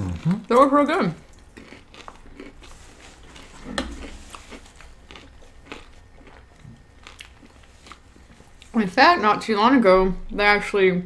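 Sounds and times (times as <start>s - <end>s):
chewing food with crunches: 0.0s - 9.0s.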